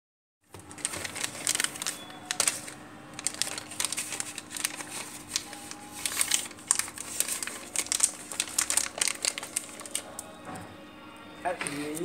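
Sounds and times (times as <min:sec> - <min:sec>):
plastic packaging crinkling: 0:00.5 - 0:10.3.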